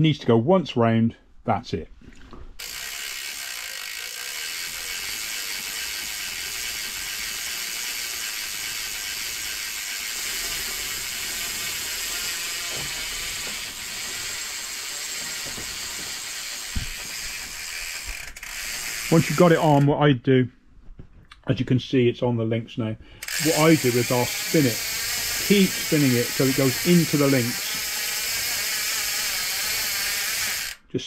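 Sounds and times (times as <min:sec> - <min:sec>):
bicycle freehub clicking: 0:02.6 - 0:19.9, 0:23.2 - 0:30.8.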